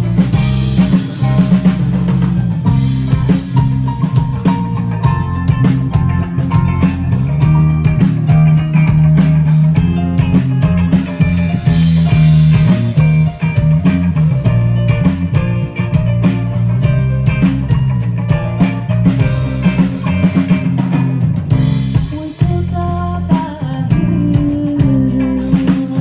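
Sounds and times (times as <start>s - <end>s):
drum kit steady beat: 0.0s - 26.0s
live band playing: 0.0s - 26.0s.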